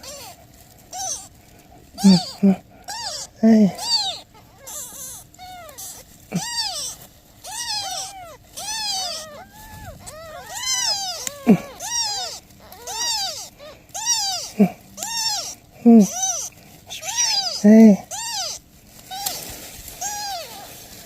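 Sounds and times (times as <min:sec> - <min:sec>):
kittens mewing: 0:00.0 - 0:21.0.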